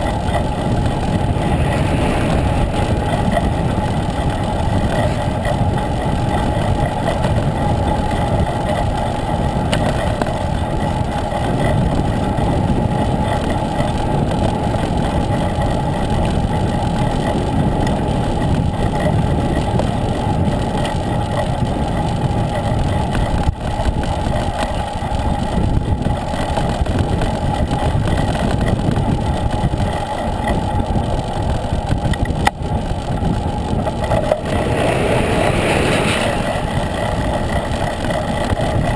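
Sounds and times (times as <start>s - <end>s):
bike road noise: 0.0s - 38.9s
wind rush on microphone: 0.0s - 38.9s.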